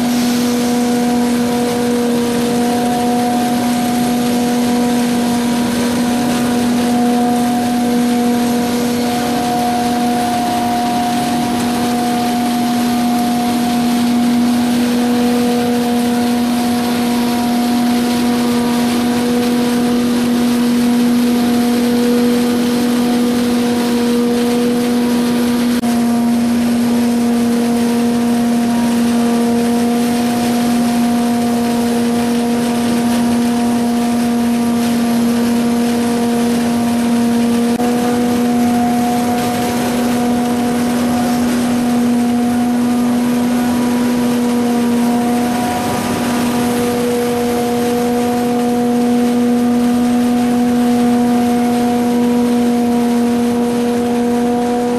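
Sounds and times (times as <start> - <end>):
harvester machine humming: 0.0 - 54.9.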